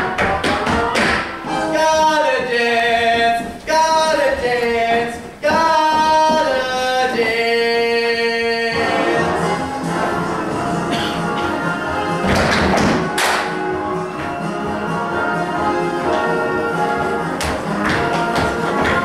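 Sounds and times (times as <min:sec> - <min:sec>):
rhythmic show music: 0:00.0 - 0:19.0
group of voices singing: 0:00.6 - 0:19.0.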